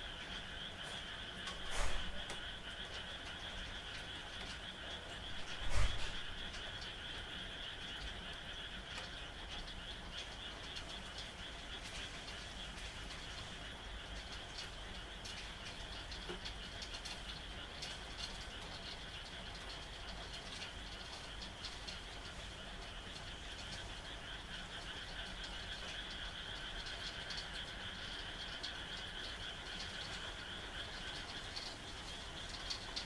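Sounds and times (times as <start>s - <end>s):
chorus of frogs calling: 0.0s - 33.0s
rain falling: 0.0s - 33.0s.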